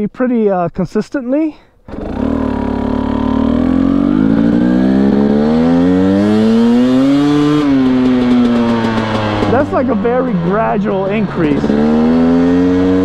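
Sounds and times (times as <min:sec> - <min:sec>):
two-stroke engine revving: 0:01.9 - 0:13.0.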